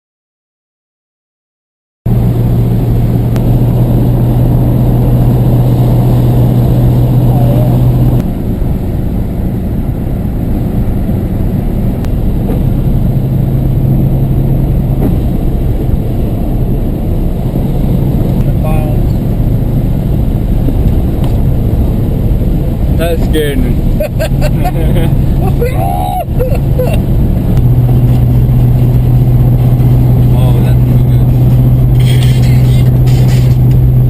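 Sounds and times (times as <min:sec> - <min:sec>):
car engine and road rumble: 0:02.1 - 0:34.0
low drone: 0:02.2 - 0:34.0.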